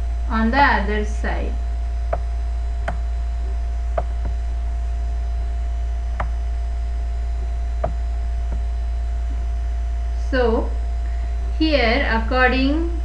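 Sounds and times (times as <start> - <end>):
electrical mains hum: 0.0 - 13.0
faint high whine: 0.0 - 13.0.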